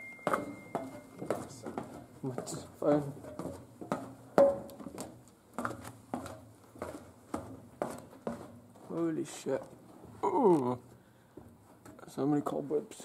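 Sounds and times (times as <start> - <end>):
footsteps going down stairs: 0.0 - 12.6.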